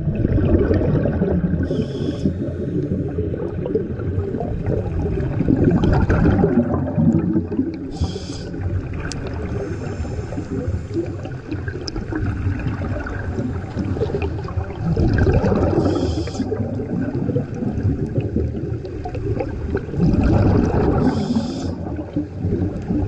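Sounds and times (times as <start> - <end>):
breathing bubbles: 0.0 - 23.0
muffled underwater rumble: 0.0 - 23.0.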